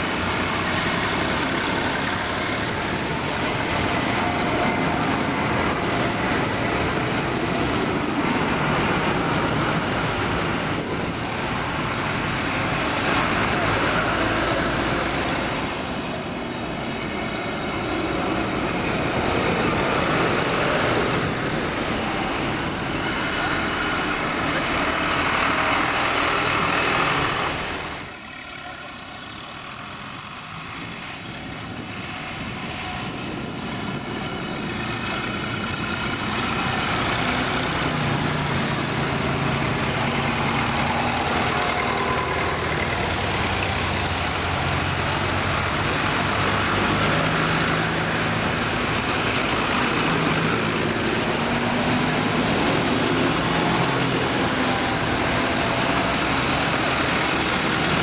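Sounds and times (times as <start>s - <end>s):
tractor diesel engines passing: 0.0s - 58.0s.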